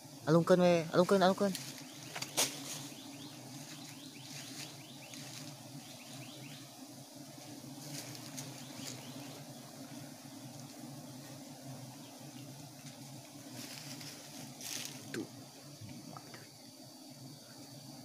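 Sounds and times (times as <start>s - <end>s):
bees humming: 0.0s - 18.0s
leaves rustling: 0.6s - 6.6s, 7.2s - 16.1s.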